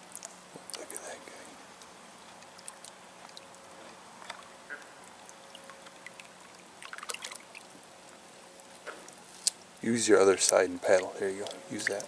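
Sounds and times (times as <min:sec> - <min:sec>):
water dripping and splashing: 0:01.8 - 0:12.0.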